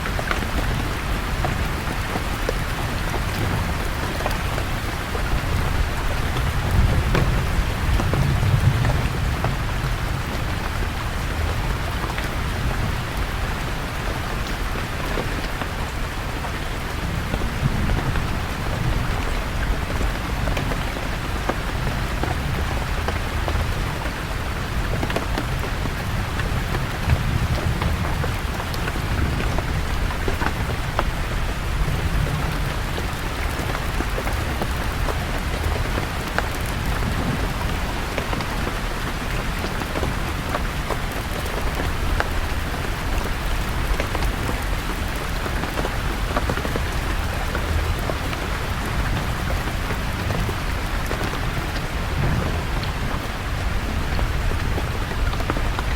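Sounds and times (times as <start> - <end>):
rain on leaves: 0.0 - 55.9.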